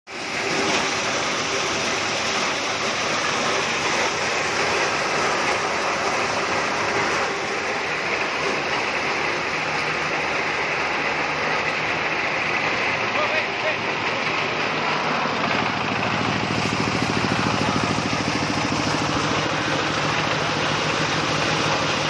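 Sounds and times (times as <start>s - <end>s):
corn sheller running: 0.1s - 22.0s.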